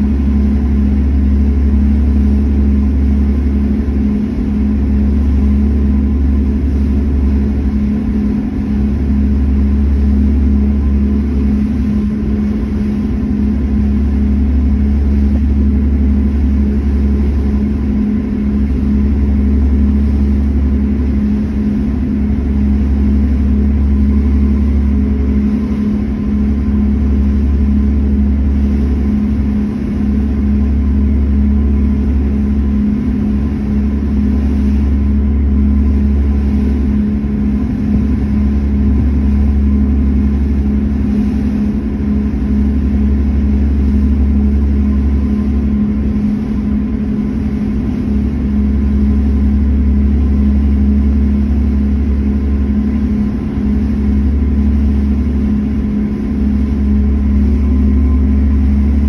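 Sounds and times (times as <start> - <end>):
constant hum: 0.0 - 59.0
ship engines rumbling: 0.0 - 59.0.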